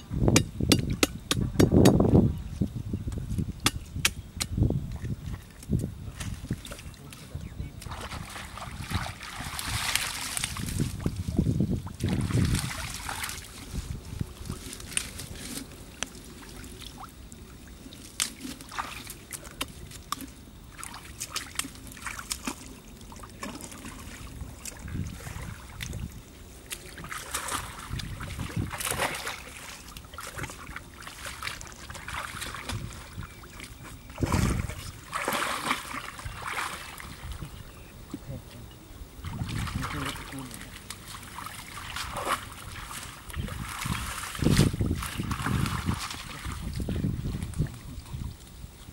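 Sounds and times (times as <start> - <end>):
weeds and mud torn out: 0.0 - 48.9
splashing in muddy water: 4.9 - 38.4, 39.2 - 48.5.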